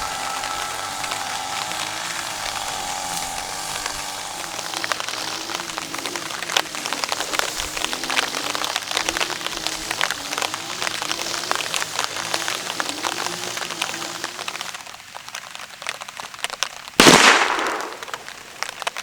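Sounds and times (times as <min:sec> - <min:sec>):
rain falling on a tarp: 0:00.0 - 0:19.0.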